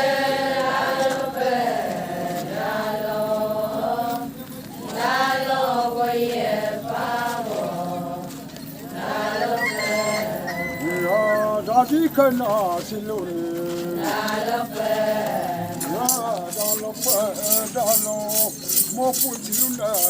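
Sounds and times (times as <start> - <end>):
voices chanting a song: 0.0 - 20.0.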